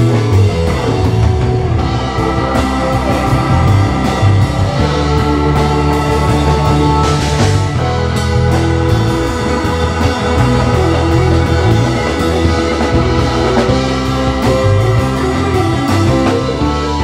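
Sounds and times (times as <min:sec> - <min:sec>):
drum kit: 0:00.0 - 0:17.0
electric guitars: 0:00.0 - 0:17.0
organ keyboard chords: 0:00.0 - 0:17.0.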